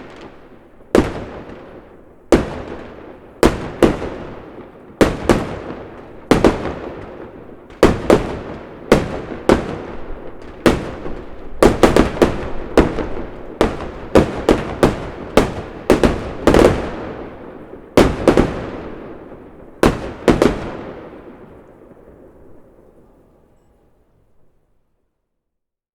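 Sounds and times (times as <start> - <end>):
fireworks bursting: 0.0 - 23.6.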